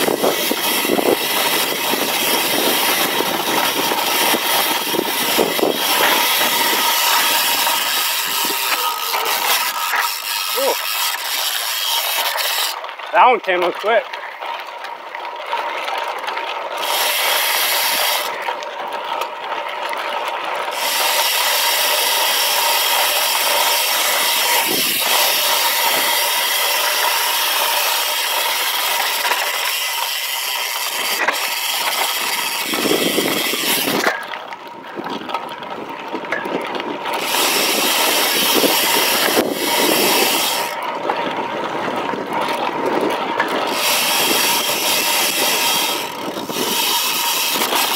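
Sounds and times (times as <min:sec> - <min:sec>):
bike rattling: 0:00.0 - 0:47.9
tyres crunching over loose dirt: 0:00.0 - 0:47.9.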